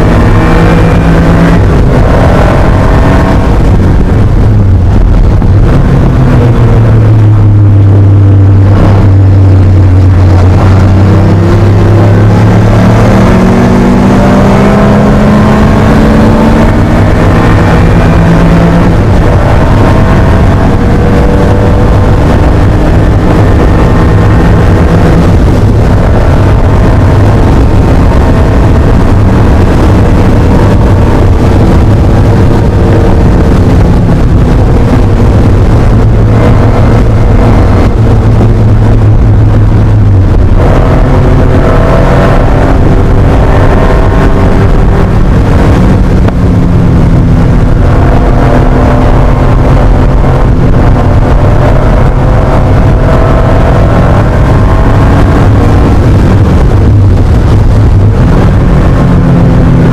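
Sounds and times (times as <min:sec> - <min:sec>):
car engine at high revs: 0:00.0 - 0:59.9.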